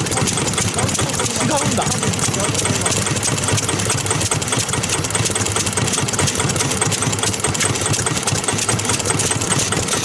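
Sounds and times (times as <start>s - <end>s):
diesel engine knocking: 0.0s - 10.0s.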